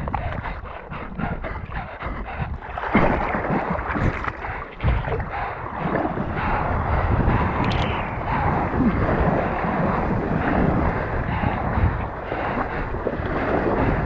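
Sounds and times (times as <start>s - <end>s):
water splashing and sloshing: 0.0s - 14.0s
wind buffeting microphone: 0.0s - 14.0s.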